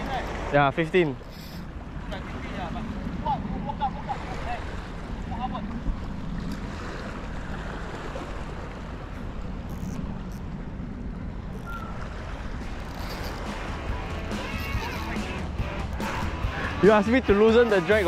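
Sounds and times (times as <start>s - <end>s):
wind rumbling on microphone: 0.0s - 16.8s.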